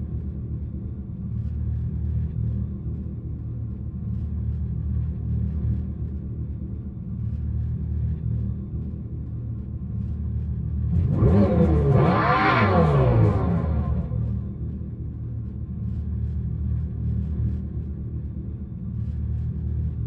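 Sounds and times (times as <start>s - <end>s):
synthesized car exhaust rumbling: 0.0s - 20.0s.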